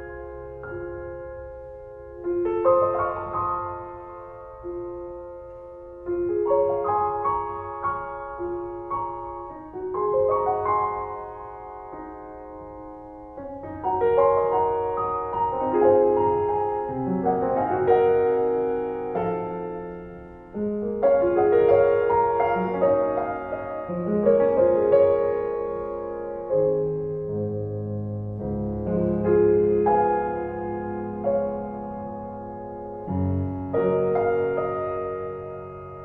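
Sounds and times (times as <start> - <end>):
slow piano melody: 0.0 - 36.0.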